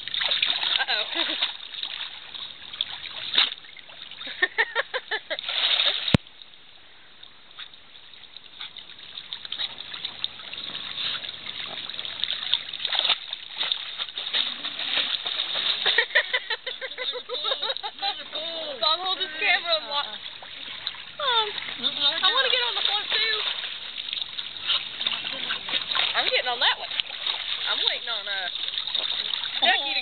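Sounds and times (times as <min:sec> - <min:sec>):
pool water splashing: 0:00.0 - 0:30.0.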